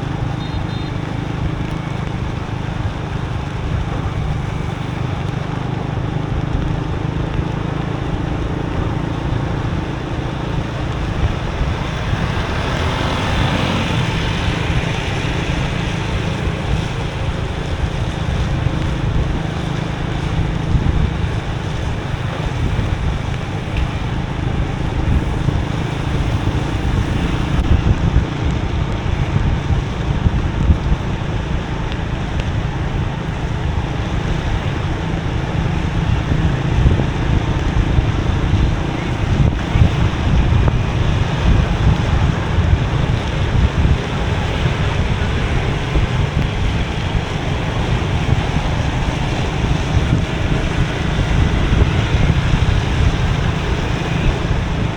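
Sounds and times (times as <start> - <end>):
motorbike engine and wind drone: 0.0 - 54.9
wet road noise: 0.0 - 54.9.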